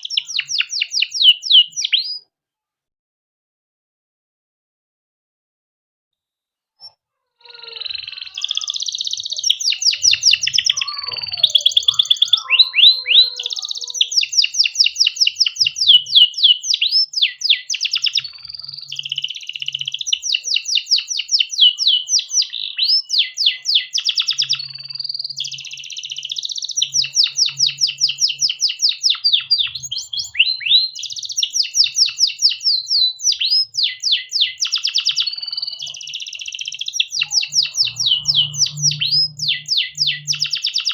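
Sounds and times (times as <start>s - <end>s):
canary singing trills: 0.0s - 2.3s, 6.8s - 40.9s.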